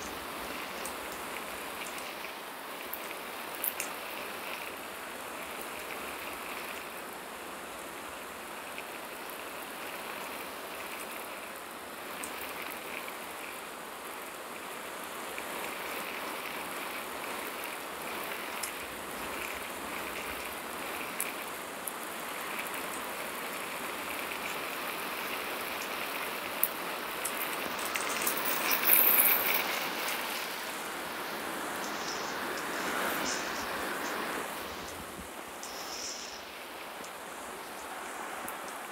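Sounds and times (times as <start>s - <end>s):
water spraying from hose on grass: 0.0s - 38.9s.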